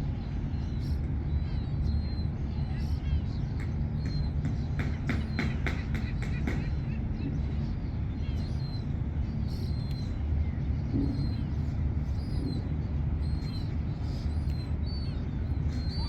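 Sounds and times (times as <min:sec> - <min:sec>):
steady low rumble: 0:00.0 - 0:05.1, 0:05.8 - 0:16.0
small birds chirping: 0:00.0 - 0:16.0.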